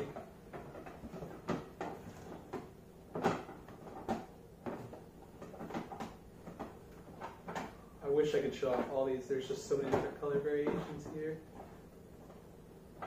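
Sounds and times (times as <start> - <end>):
plastic discs scraping and knocking: 0.0 - 12.4.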